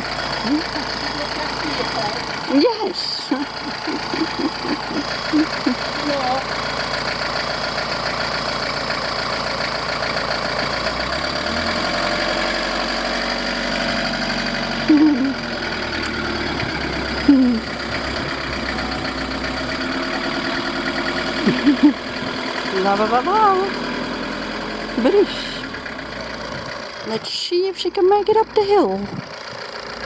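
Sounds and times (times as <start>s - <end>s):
van engine running: 0.0s - 30.0s.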